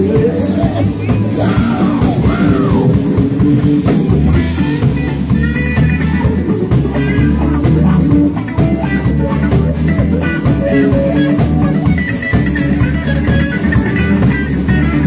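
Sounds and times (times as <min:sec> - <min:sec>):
electric guitar lead lines: 0:00.0 - 0:15.0
live rock band playing: 0:00.0 - 0:15.0.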